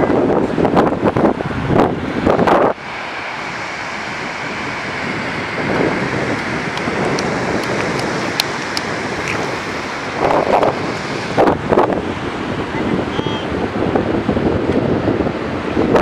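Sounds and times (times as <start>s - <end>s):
sea surf breaking on beach: 0.0s - 16.0s.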